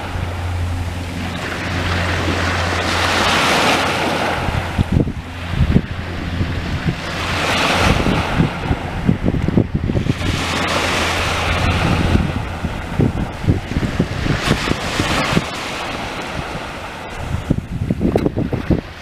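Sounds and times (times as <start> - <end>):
small waves washing on shore: 0.0 - 19.0
steady low drone: 0.0 - 19.0
wind buffeting microphone: 0.0 - 19.0.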